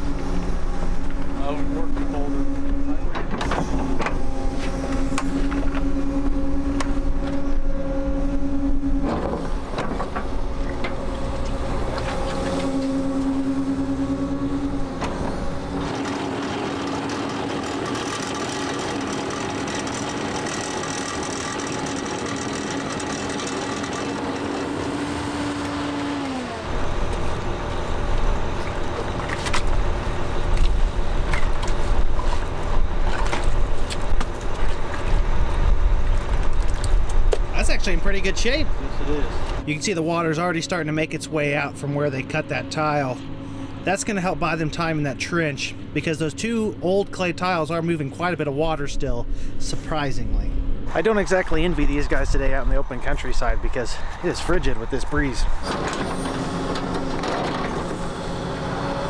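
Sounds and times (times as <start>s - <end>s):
diesel digging machine engine drone: 0.0s - 59.0s.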